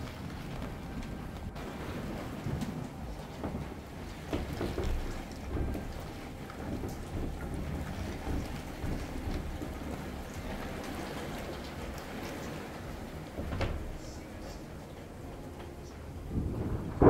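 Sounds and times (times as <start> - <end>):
heavy rain pouring: 0.0 - 17.0
low rumble: 0.0 - 17.0.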